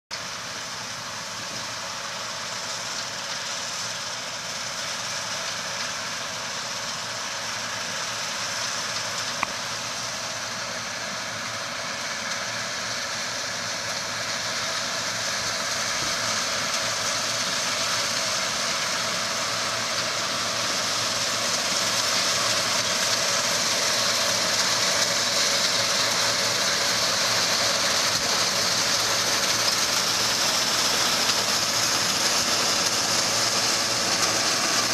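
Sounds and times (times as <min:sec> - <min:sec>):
combine harvester drone: 0:00.2 - 0:34.9.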